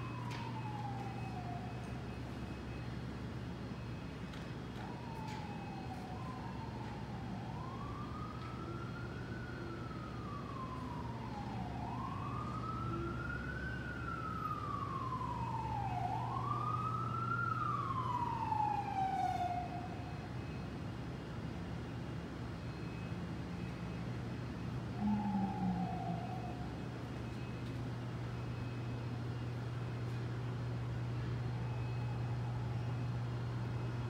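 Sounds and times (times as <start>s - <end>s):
emergency vehicle siren wailing: 0.0s - 34.0s.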